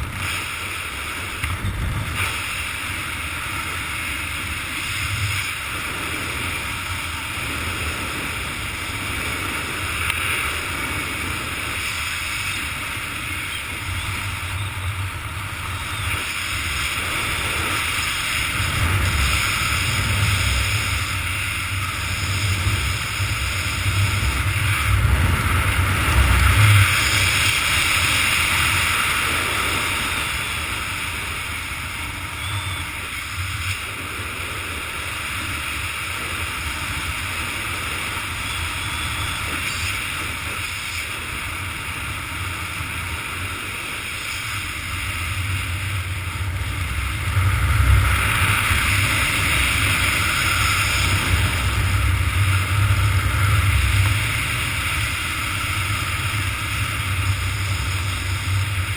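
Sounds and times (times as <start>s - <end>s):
wind rushing over microphone: 0.0s - 58.9s.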